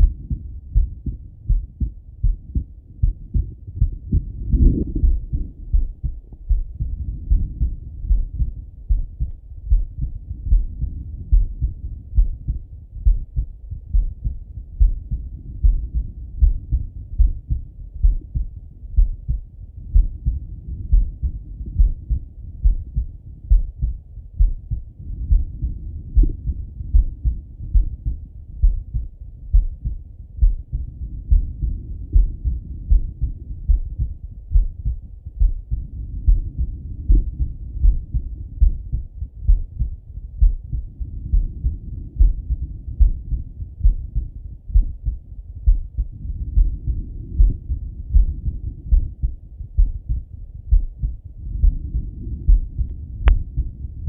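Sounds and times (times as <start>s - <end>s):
heartbeat through stethoscope: 0.0s - 54.0s.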